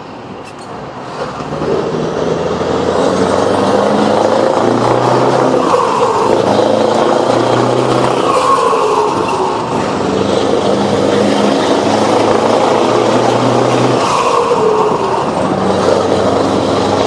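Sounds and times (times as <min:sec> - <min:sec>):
truck diesel engine running: 0:00.1 - 0:17.0.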